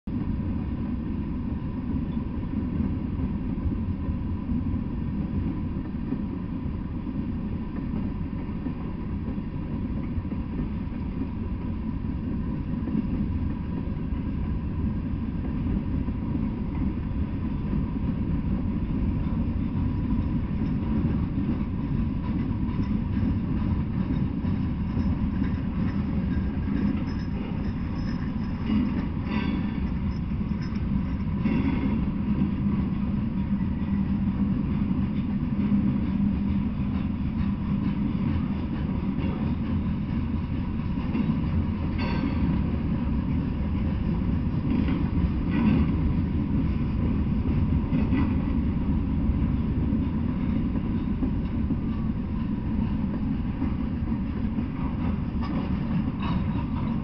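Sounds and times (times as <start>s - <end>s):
train wheels rumbling on rail: 0.0s - 57.0s
faint steady whine: 0.1s - 57.0s.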